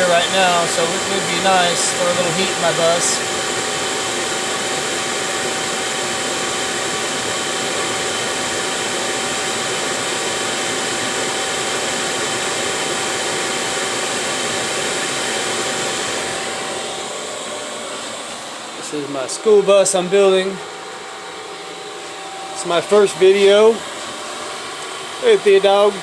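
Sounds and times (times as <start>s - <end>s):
constant whine: 0.0s - 26.0s
heater fan and burner rush: 0.0s - 26.0s.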